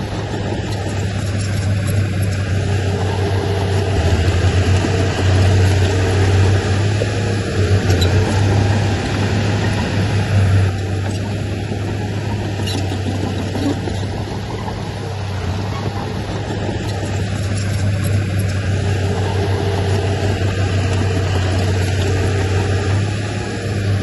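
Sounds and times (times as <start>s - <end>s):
heavy diesel machinery engine droning: 0.0s - 24.0s.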